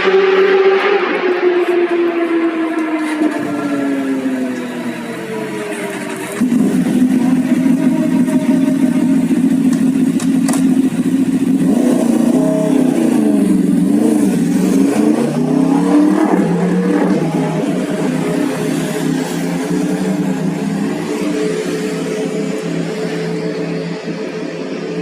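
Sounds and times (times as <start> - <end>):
motorcycle engine at high revs: 0.0 - 25.0.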